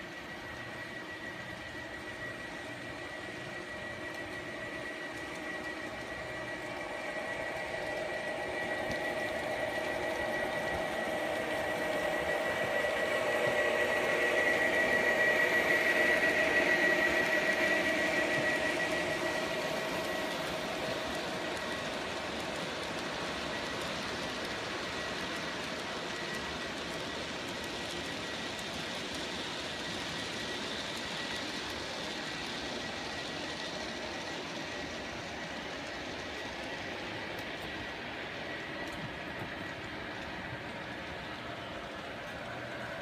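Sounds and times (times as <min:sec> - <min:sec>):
model train motor whine: 0:00.0 - 0:43.0
wheels rolling on track: 0:00.0 - 0:43.0.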